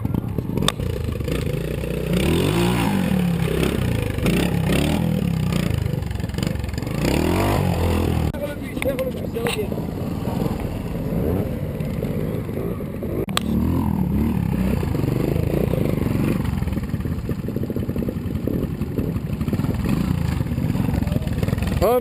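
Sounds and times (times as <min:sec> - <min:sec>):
motorcycle engine blipping: 0:00.0 - 0:22.0.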